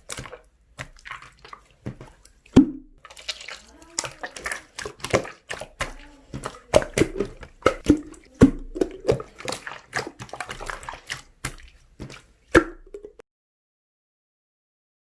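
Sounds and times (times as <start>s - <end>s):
slime popping and squelching: 0.0s - 13.2s.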